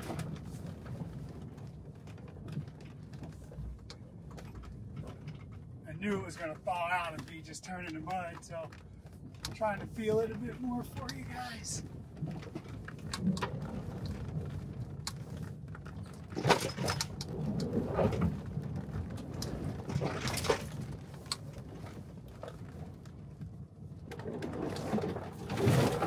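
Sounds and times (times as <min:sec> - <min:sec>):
low rumble of tyres and suspension: 0:00.0 - 0:26.0.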